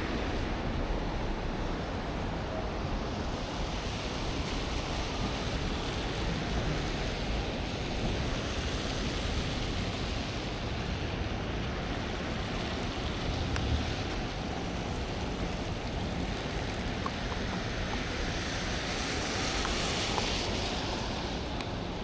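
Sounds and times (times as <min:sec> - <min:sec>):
city noise: 0:00.0 - 0:22.0
wind buffeting microphone: 0:00.0 - 0:22.0.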